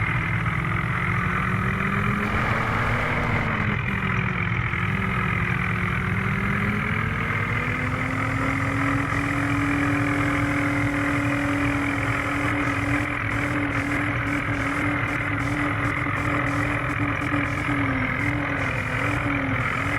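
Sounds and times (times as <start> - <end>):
vehicle engine running under load: 0.0 - 19.9.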